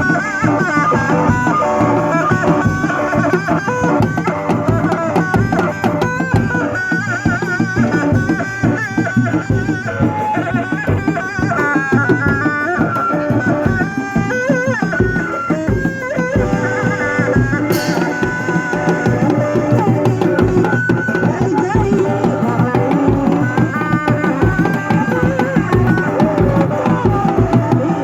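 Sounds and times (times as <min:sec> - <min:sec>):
fast hand drums: 0:00.0 - 0:28.0
reedy wavering wind melody: 0:00.0 - 0:28.0.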